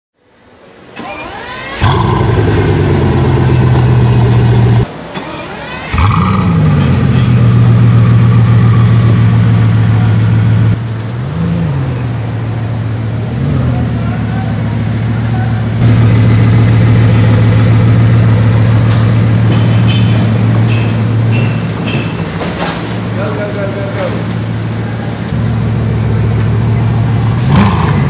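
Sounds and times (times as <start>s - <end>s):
car engine starting and idling: 0.8s - 21.8s, 22.4s - 28.0s
engine throttle blips: 0.9s - 22.4s, 23.2s - 28.0s.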